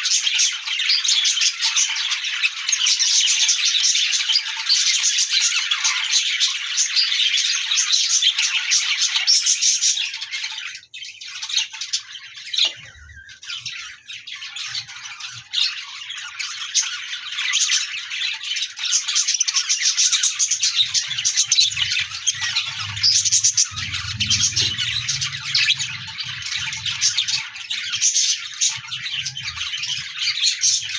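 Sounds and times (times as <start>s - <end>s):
budgerigars chirping and warbling: 0.0s - 30.9s.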